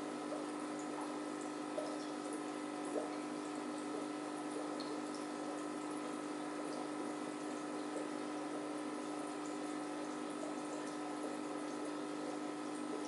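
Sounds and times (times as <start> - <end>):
filter pump humming: 0.0 - 13.0
water bubbling and trickling: 0.0 - 13.0
water drips: 0.2 - 13.0.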